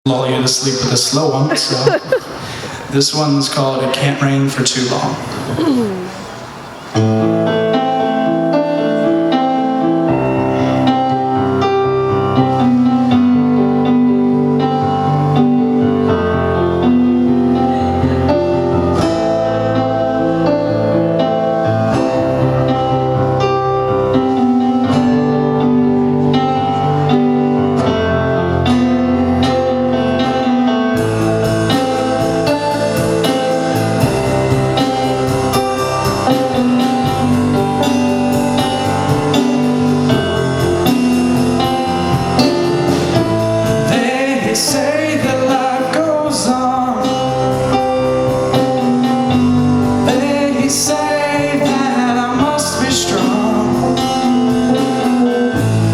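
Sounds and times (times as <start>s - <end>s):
keyboard chords: 4.7s - 55.9s
lead guitar bending notes: 5.2s - 55.9s
guitar: 5.3s - 55.9s
rock band playing: 6.4s - 55.9s.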